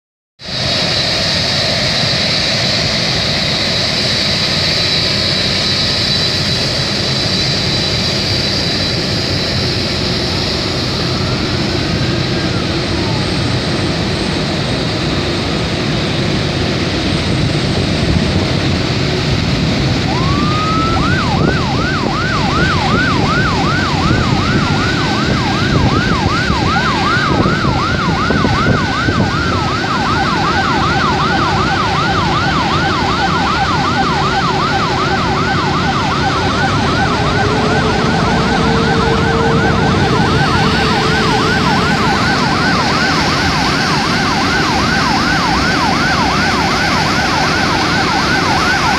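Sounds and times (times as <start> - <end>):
loud steady rumbling: 0.5 - 48.9
fire truck sirens wailing: 1.6 - 48.9.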